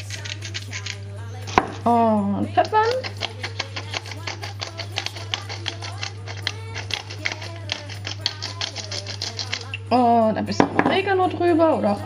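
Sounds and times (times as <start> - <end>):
pepper mill grinding: 0.0 - 12.0
steady low hum: 0.0 - 12.0.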